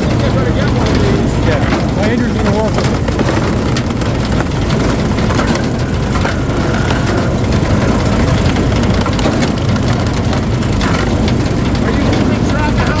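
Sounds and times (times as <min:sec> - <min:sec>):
wood splitter engine running: 0:00.0 - 0:13.0.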